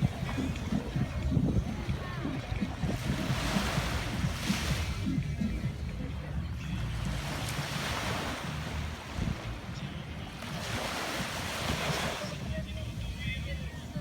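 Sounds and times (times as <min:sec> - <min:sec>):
ocean waves breaking: 0:00.0 - 0:14.0
wind on microphone: 0:00.0 - 0:14.0.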